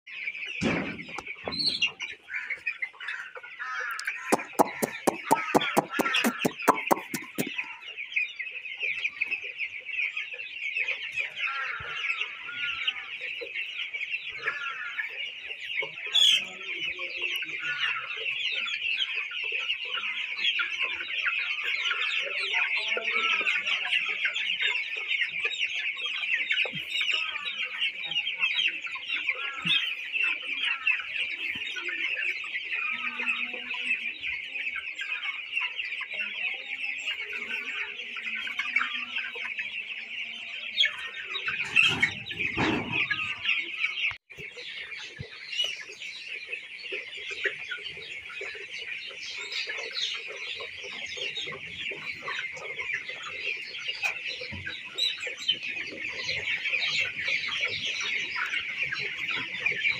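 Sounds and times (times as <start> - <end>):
chickens peeping and clucking: 0.1 - 59.9.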